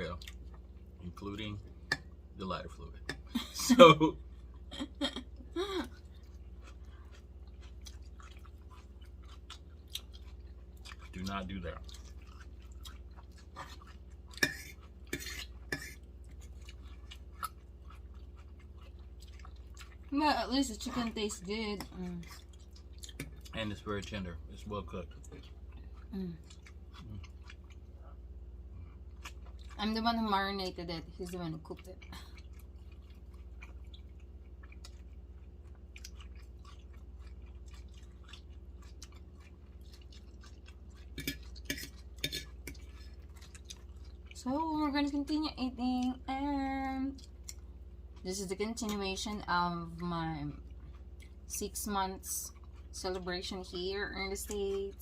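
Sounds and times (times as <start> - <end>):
steady low hum: 0.0 - 55.0
chewing: 0.2 - 1.3, 5.8 - 28.2, 28.8 - 30.0, 31.2 - 45.4, 47.1 - 49.3, 49.9 - 51.6, 52.2 - 55.0.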